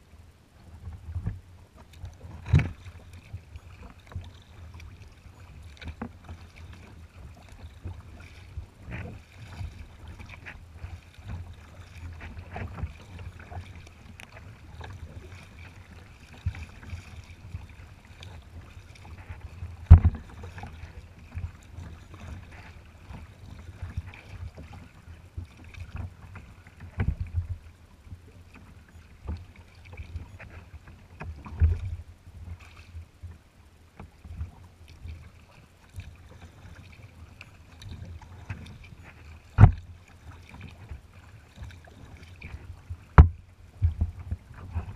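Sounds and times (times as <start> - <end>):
water slapping kayak hull: 0.0 - 44.9.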